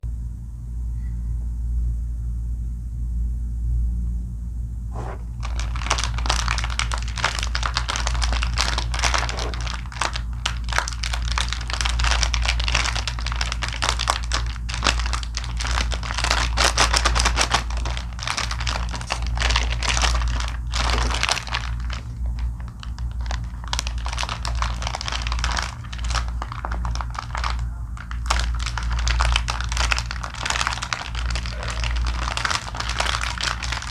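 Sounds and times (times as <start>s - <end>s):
low hum: 0.0s - 33.9s
plastic wrapper crinkling: 5.0s - 33.9s.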